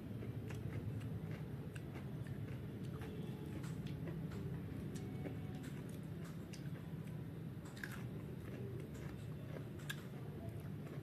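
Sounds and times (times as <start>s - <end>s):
person chewing food: 0.0s - 11.0s
steady low hum: 0.0s - 11.0s.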